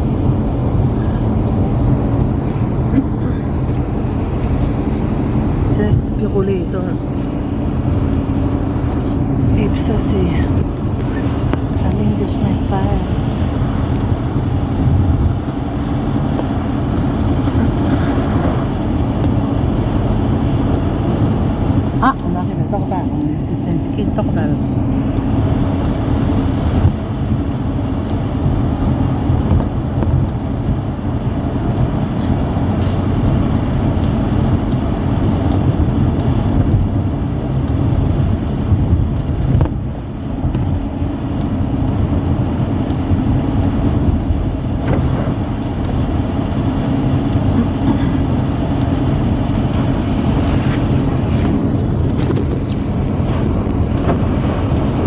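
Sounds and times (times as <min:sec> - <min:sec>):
engine and tyres on wet road: 0:00.0 - 0:55.0.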